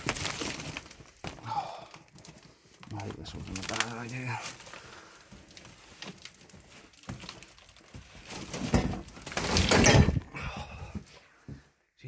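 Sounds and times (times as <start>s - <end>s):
person clambering over debris: 0.0s - 11.7s.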